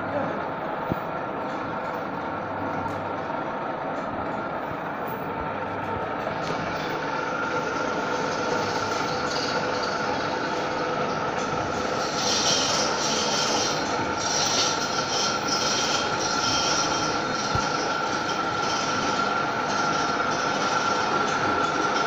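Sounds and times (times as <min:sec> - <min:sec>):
milling machine motor humming: 0:00.0 - 0:22.0.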